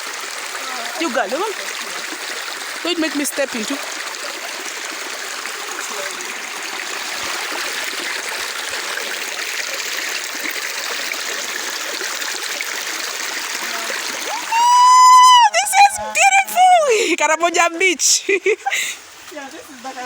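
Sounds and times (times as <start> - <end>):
stream of running water: 0.0 - 20.0.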